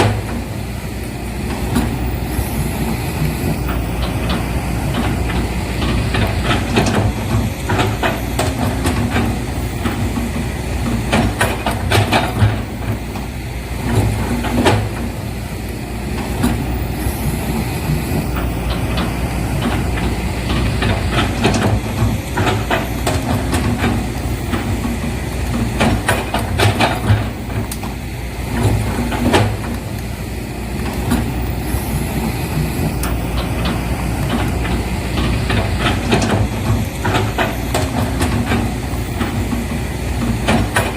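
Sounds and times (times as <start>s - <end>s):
low engine rumble: 0.0s - 40.9s.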